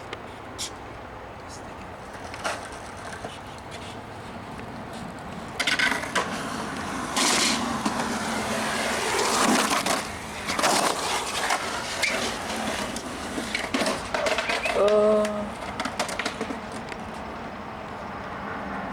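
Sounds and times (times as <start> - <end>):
skateboard wheels rolling: 0.0 - 18.9
skateboard clacks: 1.4 - 17.4.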